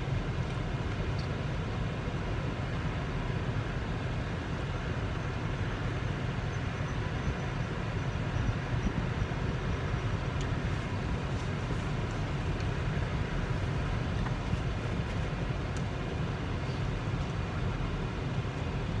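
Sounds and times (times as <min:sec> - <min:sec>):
vehicle rumble inside cabin: 0:00.0 - 0:19.0.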